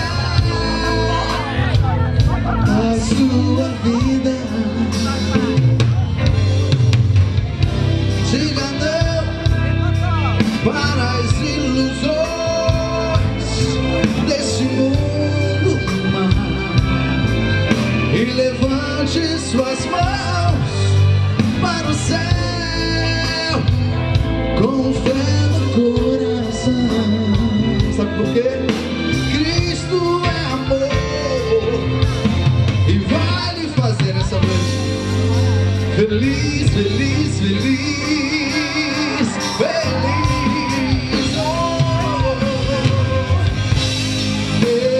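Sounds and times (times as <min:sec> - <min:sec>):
man singing: 0:00.0 - 0:06.8, 0:07.4 - 0:44.9
live band playing: 0:00.0 - 0:44.9
steady drumbeat: 0:00.0 - 0:44.9.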